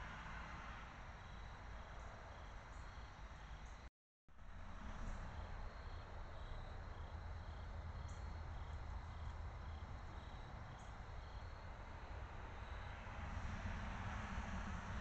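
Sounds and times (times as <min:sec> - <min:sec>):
low rumble and hiss: 0:00.0 - 0:15.0
crickets chirping: 0:00.1 - 0:03.9, 0:04.5 - 0:13.4.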